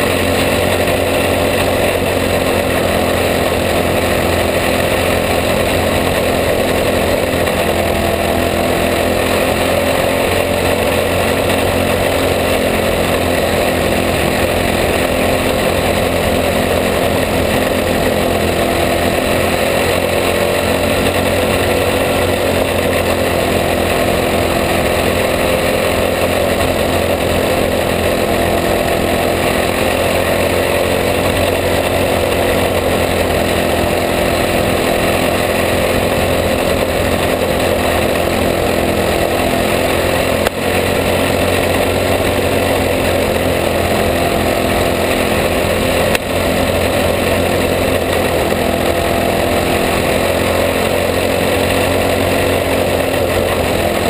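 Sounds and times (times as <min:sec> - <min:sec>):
kart engine running hard: 0:00.0 - 0:54.0.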